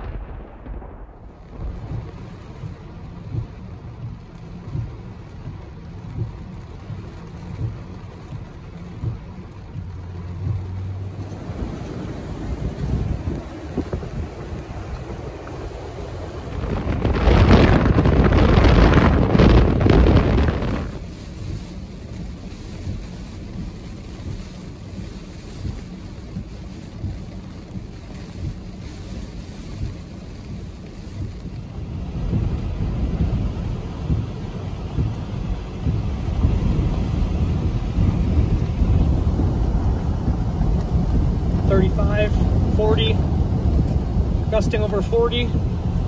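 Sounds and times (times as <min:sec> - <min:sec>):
car driving through water: 0:00.0 - 0:46.0
heavy rain pouring: 0:00.0 - 0:46.0
wind buffeting microphone: 0:00.0 - 0:46.0.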